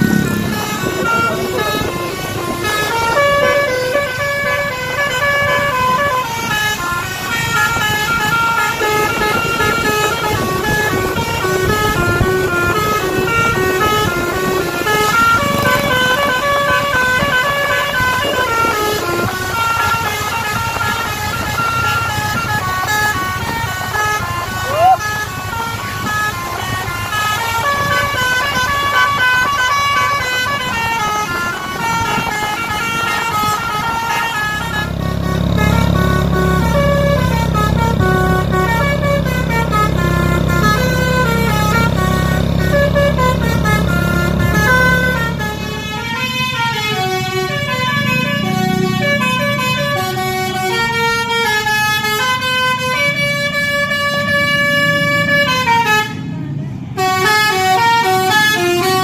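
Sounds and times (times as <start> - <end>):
musical air horn tune: 0.0 - 56.2
deep engine rumble: 0.0 - 59.0.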